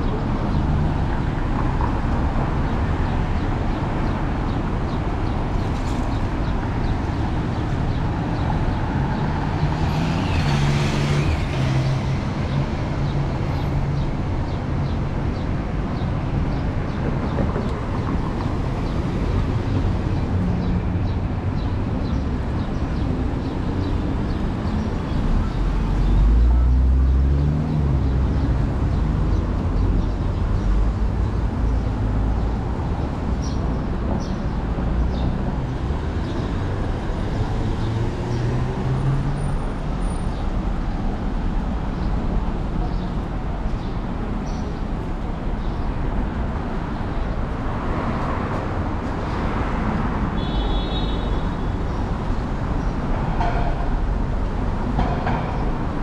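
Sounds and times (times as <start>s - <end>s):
passing cars: 0.0s - 56.0s.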